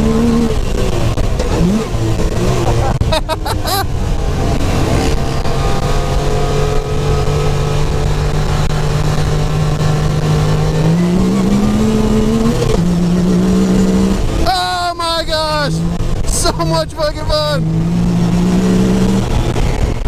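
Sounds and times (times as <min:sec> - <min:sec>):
steady rush of noise: 0:00.0 - 0:20.0.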